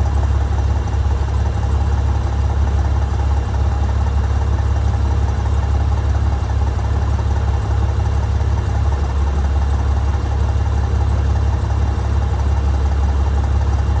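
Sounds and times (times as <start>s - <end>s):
helicopter rotor and turbines: 0.0s - 14.0s.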